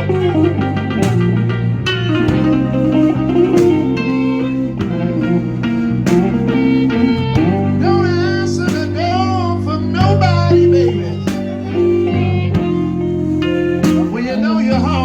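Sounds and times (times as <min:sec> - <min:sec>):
bass line: 0:00.0 - 0:15.0
electric guitar lead: 0:00.0 - 0:15.0
keyboard: 0:00.0 - 0:15.0.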